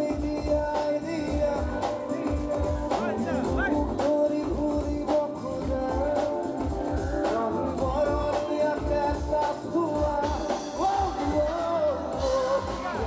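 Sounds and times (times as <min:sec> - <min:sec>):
drum kit beat: 0:00.0 - 0:13.0
electric guitar: 0:00.0 - 0:13.0
keyboard: 0:00.0 - 0:13.0
person singing: 0:00.0 - 0:13.0.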